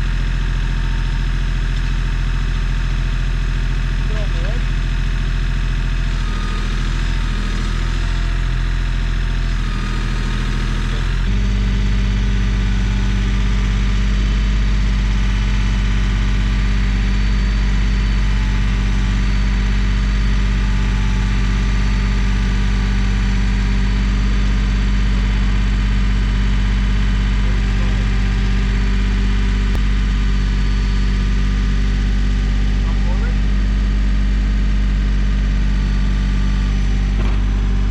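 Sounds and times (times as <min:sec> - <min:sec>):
small gasoline engine running: 0:00.0 - 0:37.9.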